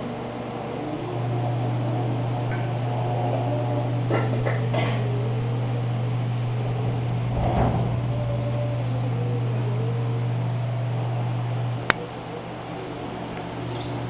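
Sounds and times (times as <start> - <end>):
aquarium pump hum: 0.0 - 14.0.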